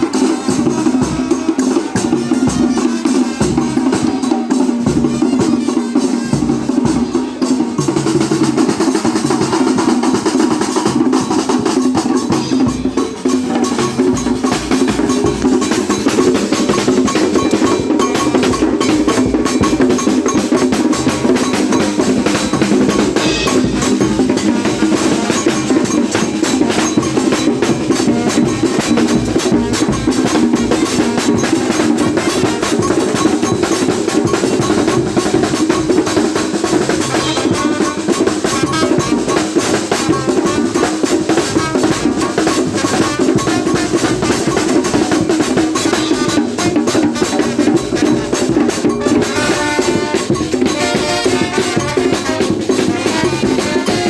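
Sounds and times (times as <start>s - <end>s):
fast dance drumming: 0.0s - 54.0s.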